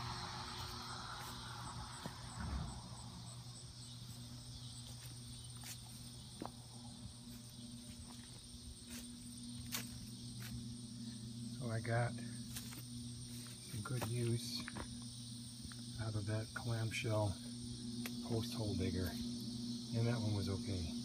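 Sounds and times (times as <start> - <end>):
insect chirping: 0.0 - 21.0
steady low hum: 0.0 - 21.0.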